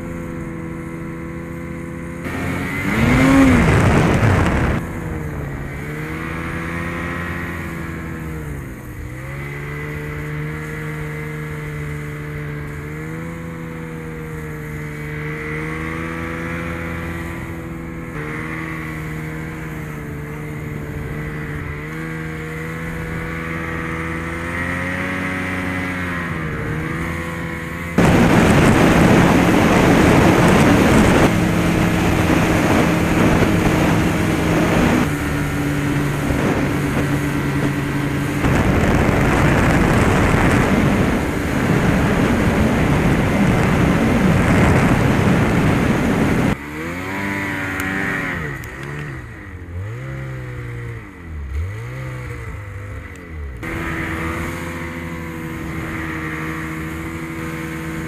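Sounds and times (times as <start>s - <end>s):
snowmobile engine running hard: 0.0s - 58.0s.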